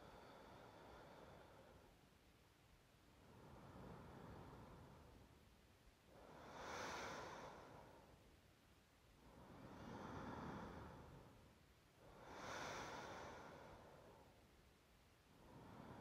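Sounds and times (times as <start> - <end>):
woman breathing slowly: 0.0 - 16.0.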